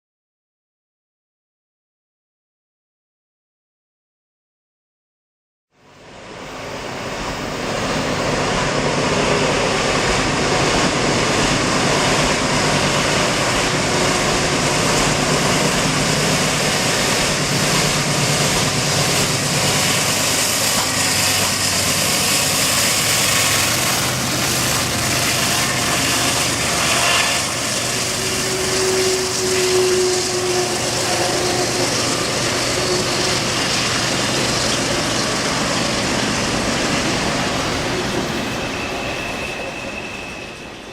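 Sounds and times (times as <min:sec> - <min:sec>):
diesel locomotive engine labouring: 0:05.8 - 0:40.9.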